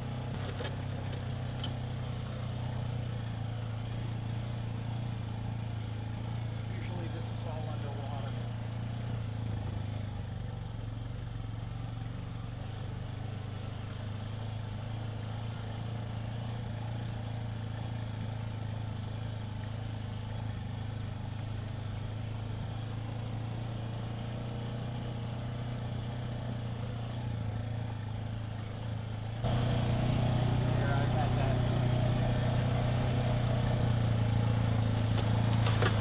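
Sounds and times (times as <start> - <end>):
off-road vehicle engine running: 0.0 - 36.0
road noise: 0.0 - 36.0.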